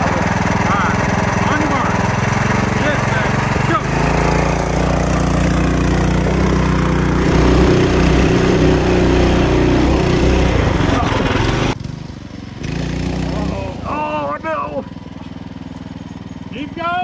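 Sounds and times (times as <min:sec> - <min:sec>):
mini bike engine at full throttle: 0:00.0 - 0:17.0.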